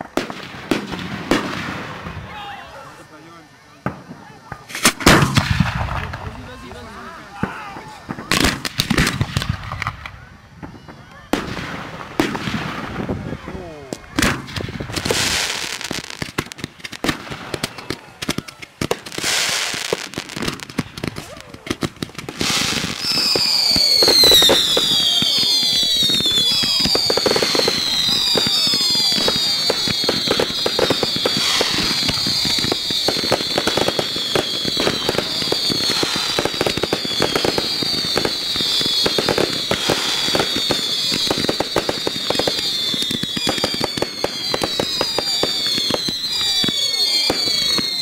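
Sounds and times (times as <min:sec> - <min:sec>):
firework fountain hissing: 0:00.0 - 0:48.0
fireworks popping and cracking: 0:00.0 - 0:48.0.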